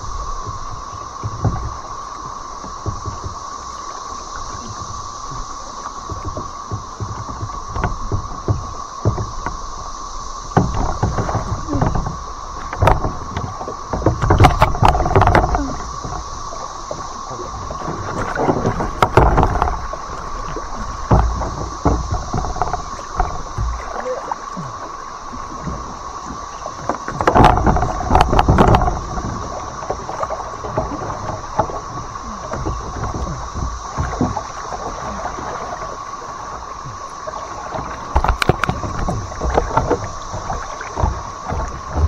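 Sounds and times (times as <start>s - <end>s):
paddle splashes and knocks: 0.0s - 42.0s.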